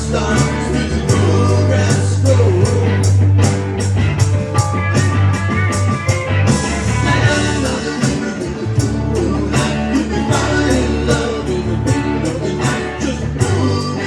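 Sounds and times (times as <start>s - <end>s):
band playing country-rock song: 0.0s - 14.0s
guitar: 0.0s - 14.0s
heavy bass line: 0.0s - 14.0s
steady drum beat: 0.0s - 14.0s.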